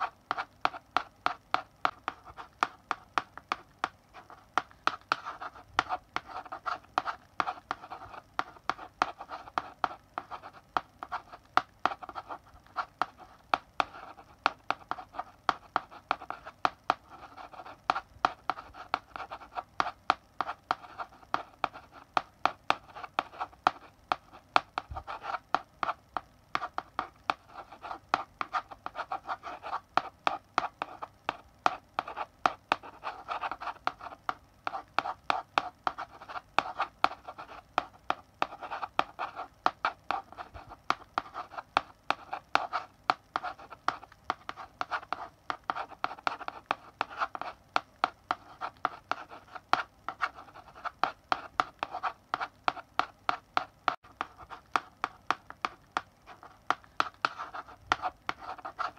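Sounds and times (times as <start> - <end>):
chalk writing on blackboard: 0.0 - 58.9.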